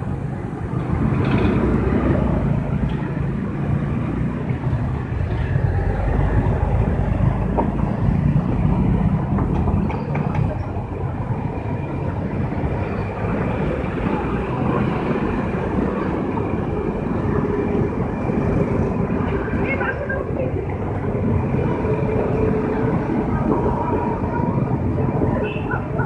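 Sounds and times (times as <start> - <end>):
traffic engines rumbling: 0.0 - 26.0.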